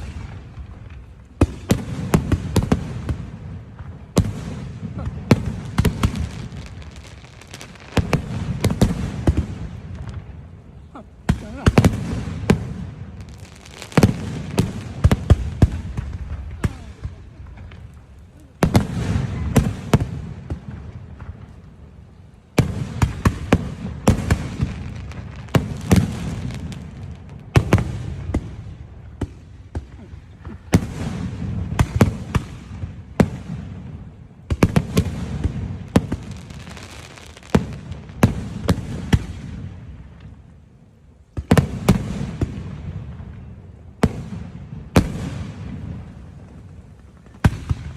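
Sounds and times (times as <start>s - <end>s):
sharp crackling bangs: 0.0s - 47.9s.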